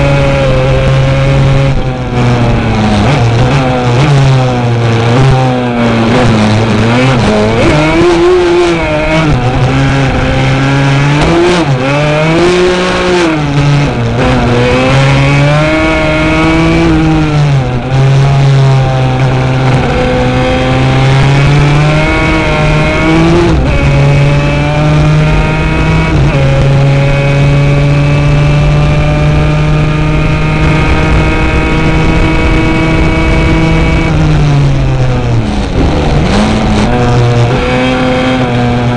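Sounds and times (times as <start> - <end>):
racing quad engine revving: 0.0 - 38.9.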